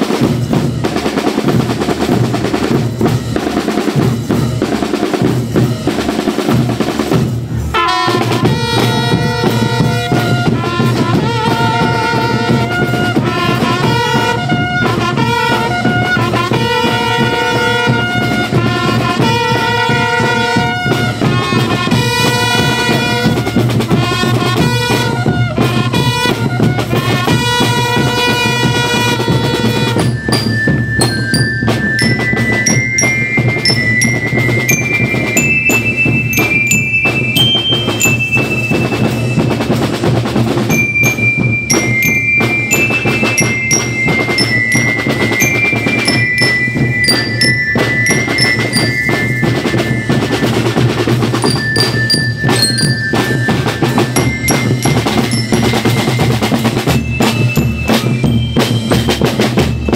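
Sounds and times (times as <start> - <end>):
bass drums: 0.0 - 59.9
snare drum rolls: 0.0 - 59.9
bell lyres playing melody: 2.1 - 59.9.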